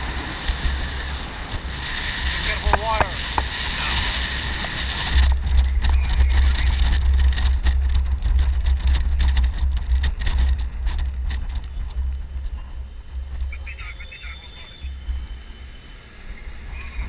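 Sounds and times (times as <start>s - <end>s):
vehicle engine rumbling: 0.0s - 17.0s
wind on microphone: 0.0s - 17.0s.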